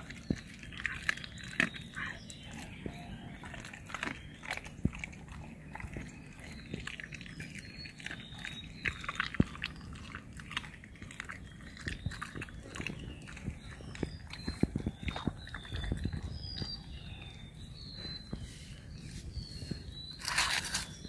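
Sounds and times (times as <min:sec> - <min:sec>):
dog chewing food: 0:00.0 - 0:18.2.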